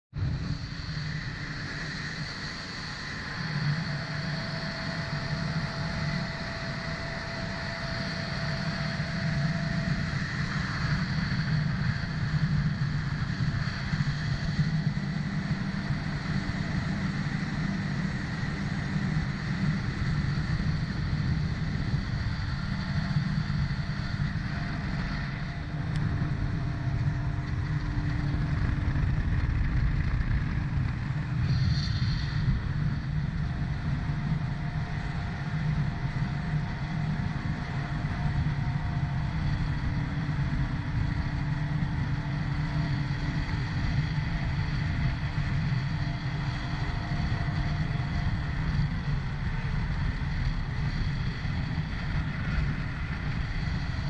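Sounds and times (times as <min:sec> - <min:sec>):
jet ski engine running: 0:00.2 - 0:54.0.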